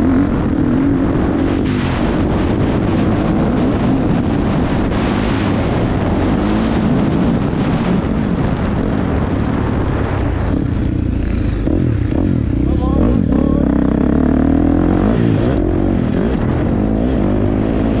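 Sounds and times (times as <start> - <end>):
motocross bike engine: 0.0 - 18.0
wind noise on microphone: 0.0 - 18.0.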